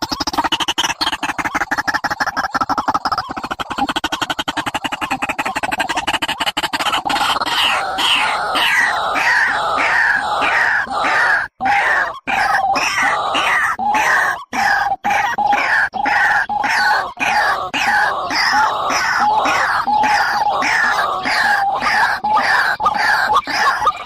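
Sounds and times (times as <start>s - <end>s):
harsh downward-sliding bird calls: 0.0s - 24.0s.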